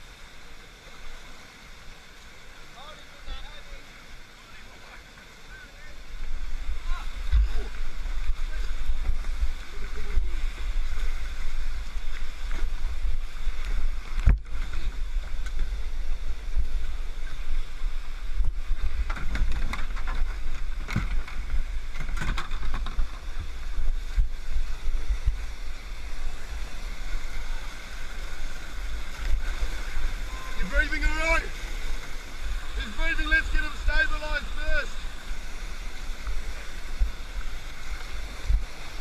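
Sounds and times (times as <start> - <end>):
whitewater rapids rushing: 0.0 - 39.0.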